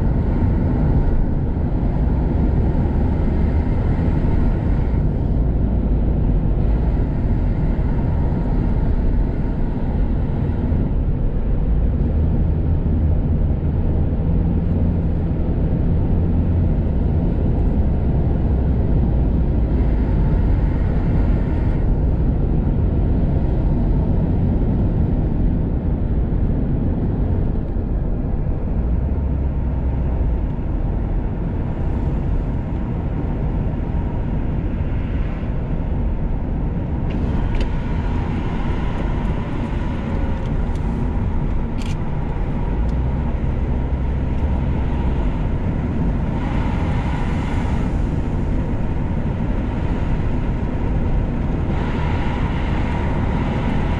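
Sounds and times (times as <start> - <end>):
car tyres and engine rumble: 0.0 - 53.9.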